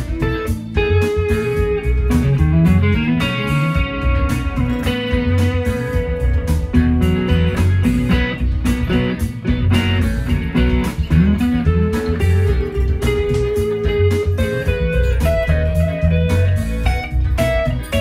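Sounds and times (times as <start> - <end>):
electric guitar improvisation: 0.0 - 18.0.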